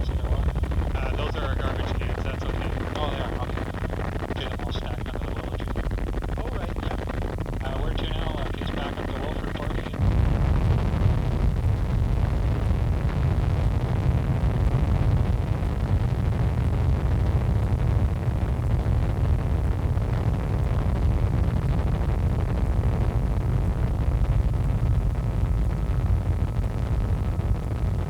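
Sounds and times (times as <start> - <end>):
helicopter rumble inside cabin: 0.0 - 28.0.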